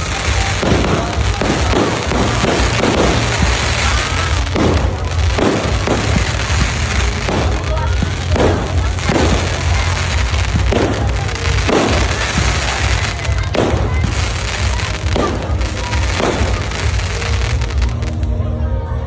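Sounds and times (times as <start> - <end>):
fireworks bangs: 0.0 - 18.3
low rumble and crackle: 0.0 - 18.4.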